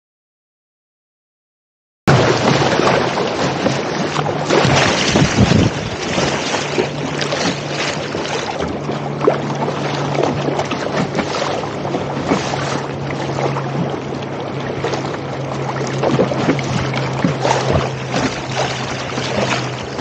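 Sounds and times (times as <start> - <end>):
seawater splashing against kayak: 2.1 - 20.0
wind buffeting microphone: 2.1 - 20.0.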